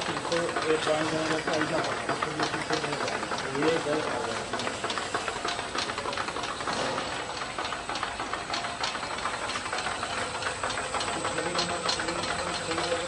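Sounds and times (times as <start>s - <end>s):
rapid irregular clicking: 0.0s - 13.0s.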